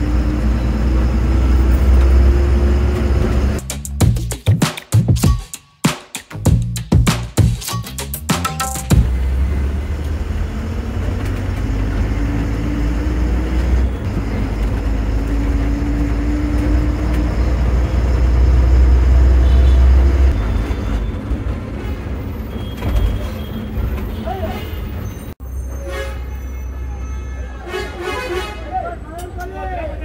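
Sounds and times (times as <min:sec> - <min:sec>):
bus engine and road drone: 0:00.0 - 0:04.0, 0:07.8 - 0:30.0.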